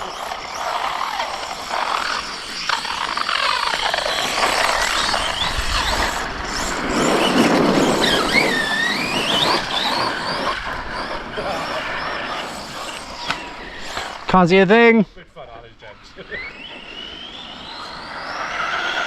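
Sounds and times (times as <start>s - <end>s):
electric motor whine: 0.0s - 14.7s, 15.8s - 19.0s
rough tyre noise: 0.0s - 19.0s.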